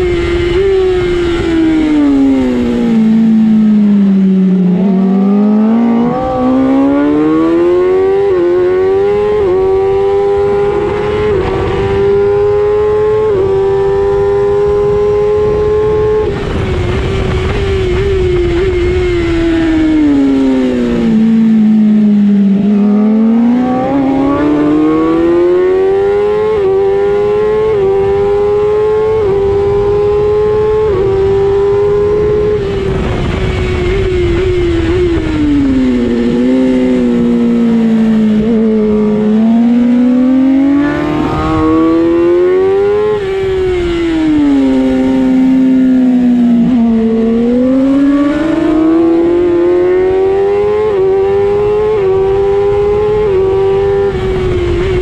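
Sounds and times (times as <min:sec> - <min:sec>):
race motorcycle engine revving: 0:00.0 - 0:55.0.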